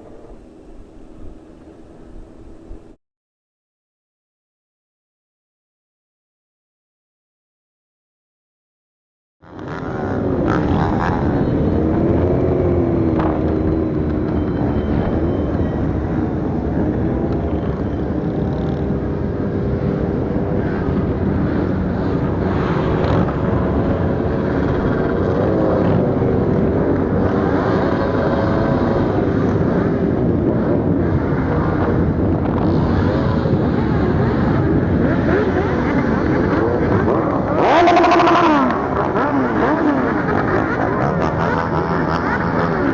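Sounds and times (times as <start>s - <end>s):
motorcycle engine: 0.0s - 3.0s, 9.4s - 42.9s
wind and road noise: 0.0s - 3.0s, 9.4s - 42.9s.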